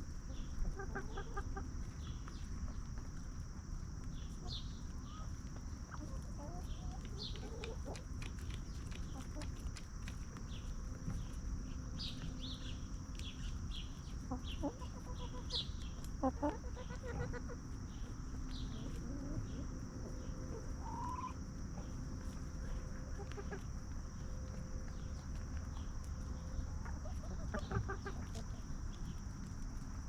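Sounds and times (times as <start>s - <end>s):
hens clucking: 0.3s - 3.0s, 4.2s - 11.4s, 12.1s - 30.0s.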